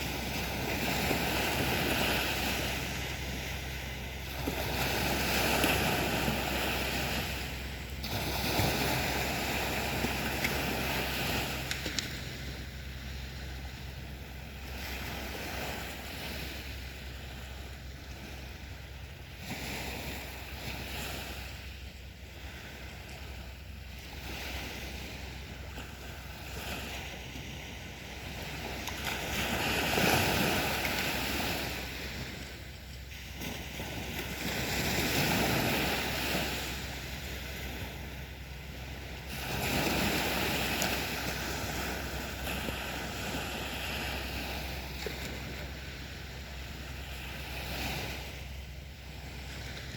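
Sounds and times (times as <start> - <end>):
sea waves breaking on beach: 0.0 - 49.9
wind on microphone: 0.0 - 49.9.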